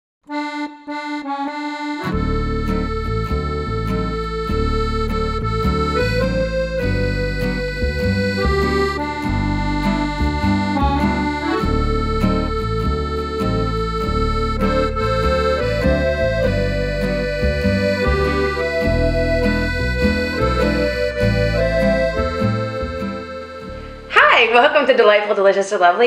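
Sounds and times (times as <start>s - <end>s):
instrumental intro music: 0.3s - 24.8s.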